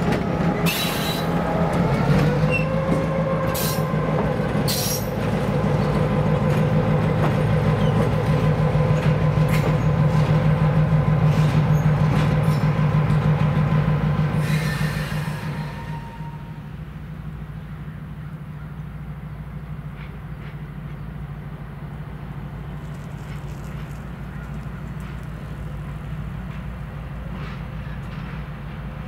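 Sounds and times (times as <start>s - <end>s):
locomotive engine drone: 0.0s - 29.0s
train rumbling over rails: 0.0s - 29.0s.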